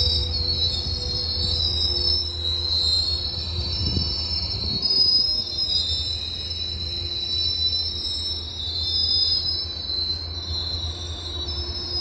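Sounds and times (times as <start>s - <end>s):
train rumble: 0.0s - 12.0s
train wheels squealing: 0.0s - 12.0s.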